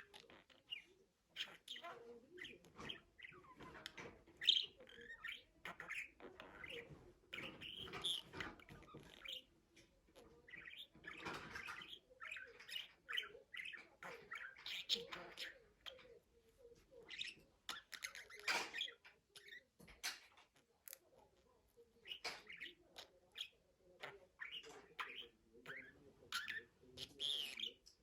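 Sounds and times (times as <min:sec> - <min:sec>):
budgerigar chattering and warbling: 0:00.0 - 0:09.5, 0:10.2 - 0:16.2, 0:17.0 - 0:20.4, 0:22.0 - 0:28.0.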